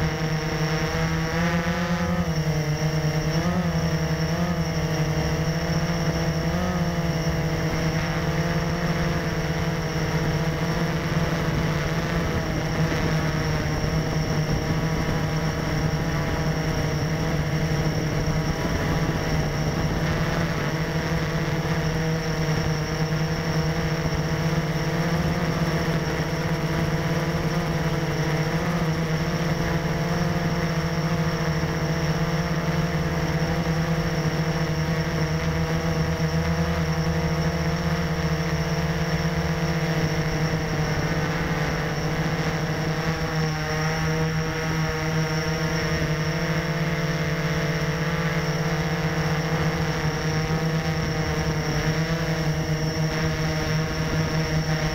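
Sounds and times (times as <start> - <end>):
quadcopter motors droning: 0.0 - 54.9.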